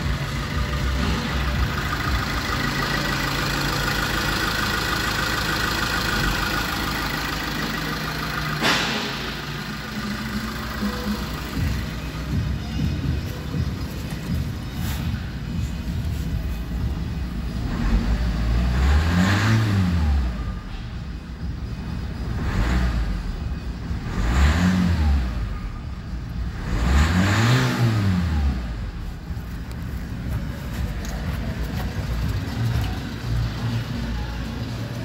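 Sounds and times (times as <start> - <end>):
diesel engine idling and revving: 0.0 - 35.0.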